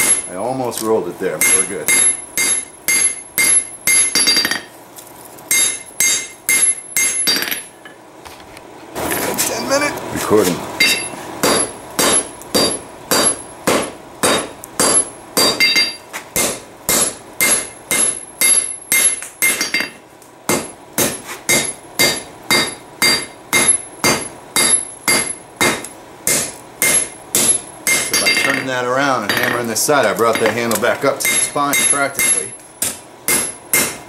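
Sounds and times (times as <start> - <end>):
hammer clanging on anvil: 0.0 - 0.4, 1.3 - 4.7, 5.5 - 8.0, 10.8 - 34.0.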